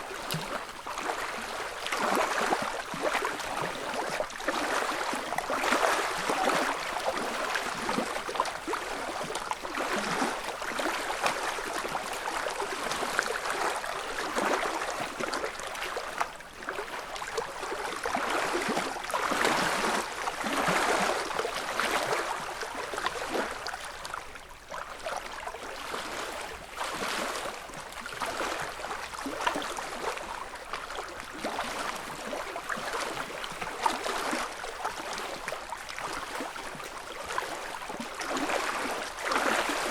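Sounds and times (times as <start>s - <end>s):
ripples lapping at shore: 0.0s - 39.9s.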